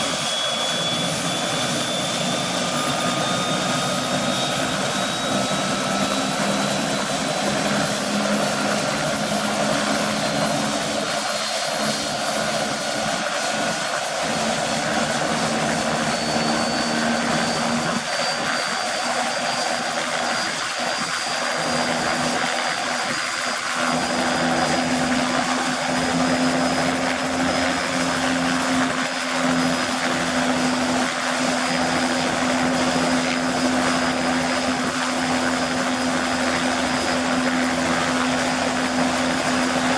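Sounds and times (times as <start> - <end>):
helicopter turbine whining: 0.0 - 39.9.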